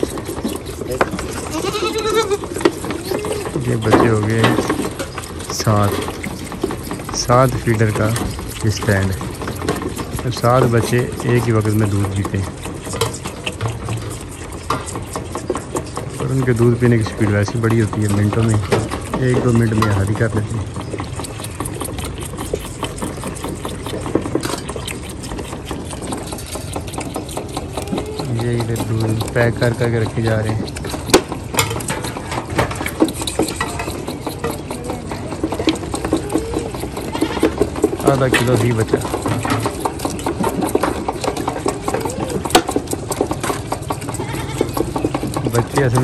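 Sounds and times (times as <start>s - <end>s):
steady low hum: 0.0s - 41.9s
goat kids sucking bottles: 0.0s - 46.0s.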